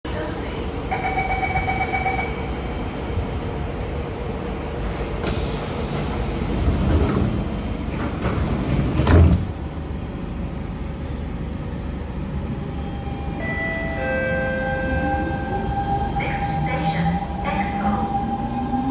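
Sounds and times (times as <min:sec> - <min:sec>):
metro train rumble: 0:00.0 - 0:18.9.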